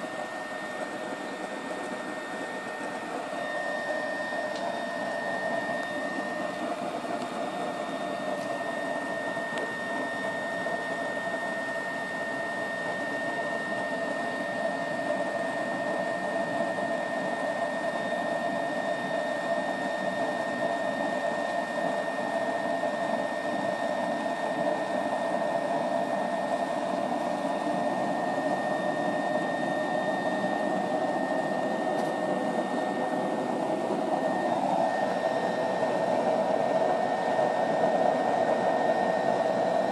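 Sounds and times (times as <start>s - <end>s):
stove fan whirring: 0.0s - 39.9s.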